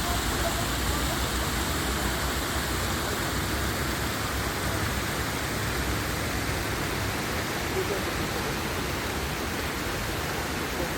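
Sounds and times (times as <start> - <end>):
waterfall pouring and splashing: 0.0 - 10.9.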